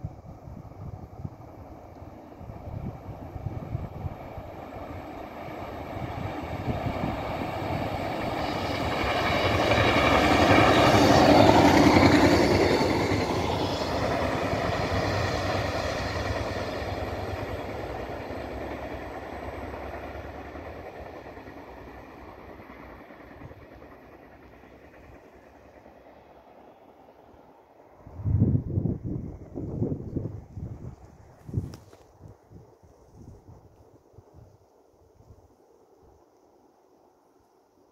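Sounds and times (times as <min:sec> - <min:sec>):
diesel railcar passing: 0:00.0 - 0:31.6.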